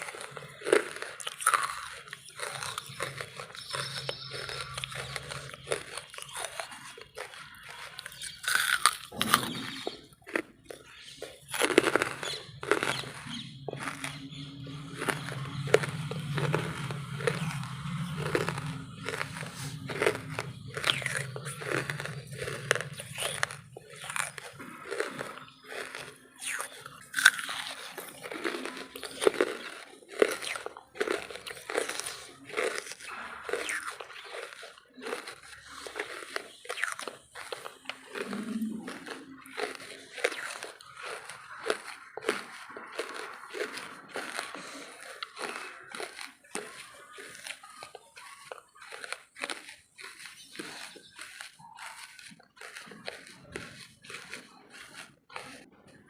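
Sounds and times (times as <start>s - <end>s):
biting and chewing charcoal: 0.0s - 56.0s.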